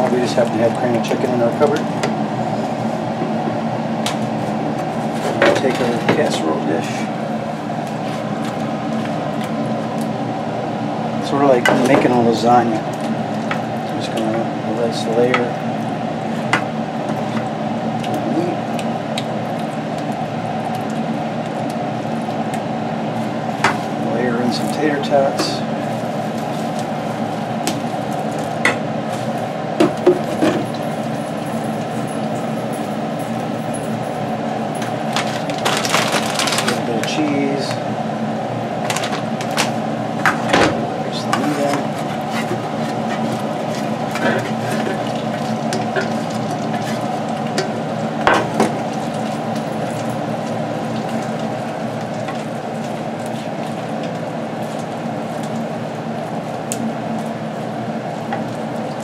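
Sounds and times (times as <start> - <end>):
steady background hum: 0.0 - 59.0.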